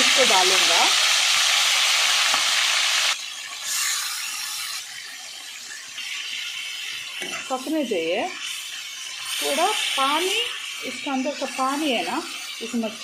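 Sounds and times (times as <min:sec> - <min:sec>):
squid sizzling in hot oil: 0:00.0 - 0:13.0.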